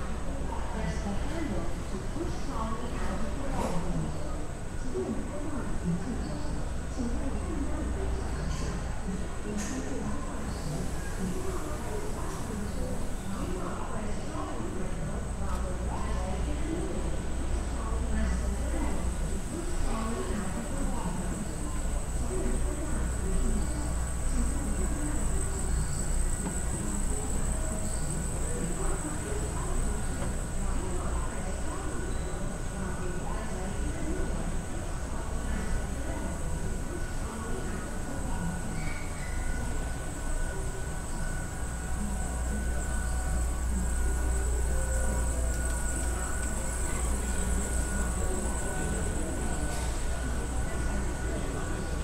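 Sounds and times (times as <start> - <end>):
faint distant voices: 0.0 - 52.0.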